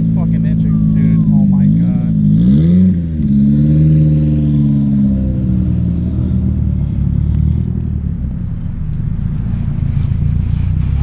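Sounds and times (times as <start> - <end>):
car engine revving down: 0.0 - 11.0.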